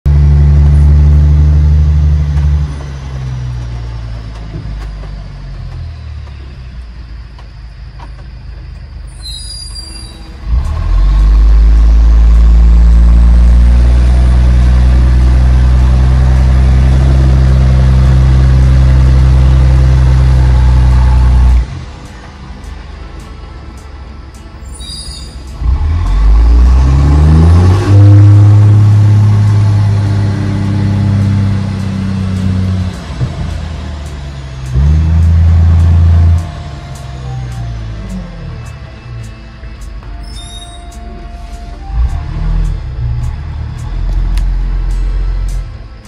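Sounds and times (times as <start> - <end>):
truck diesel engine rumbling: 0.1 - 46.0.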